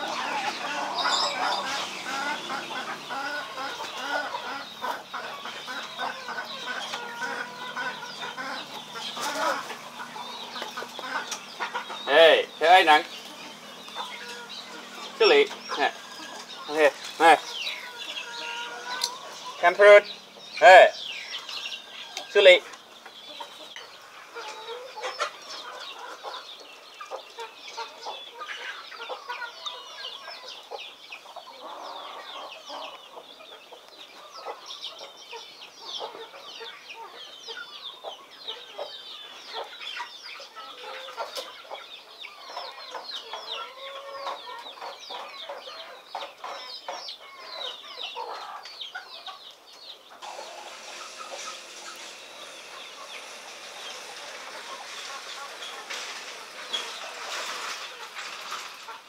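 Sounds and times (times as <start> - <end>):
chickens clucking and chirping: 0.0 - 59.0.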